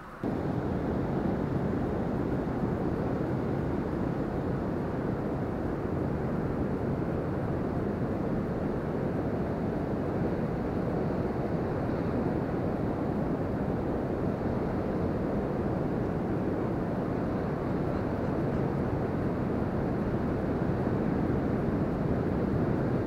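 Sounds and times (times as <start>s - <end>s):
wind buffeting microphone: 0.2s - 23.0s.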